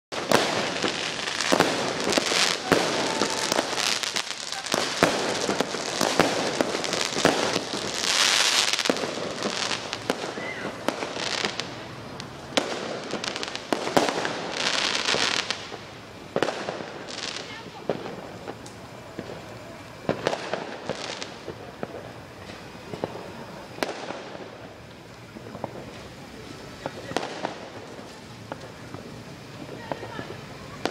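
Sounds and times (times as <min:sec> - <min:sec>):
firework hiss: 0:00.1 - 0:30.9
fireworks banging and cracking: 0:00.1 - 0:30.9.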